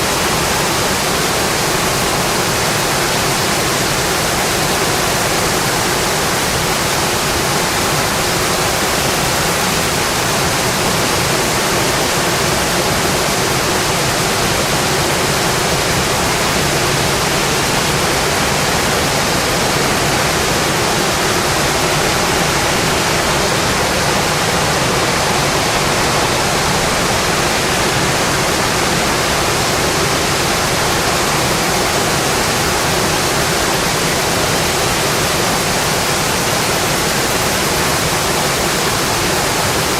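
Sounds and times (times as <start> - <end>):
rain drumming on metal roof: 0.0 - 39.9.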